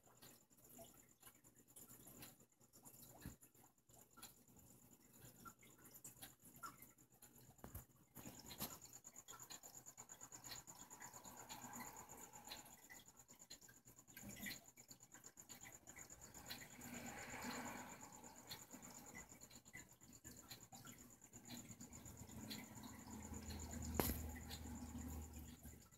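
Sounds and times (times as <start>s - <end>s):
small clicks: 5.1s - 25.9s.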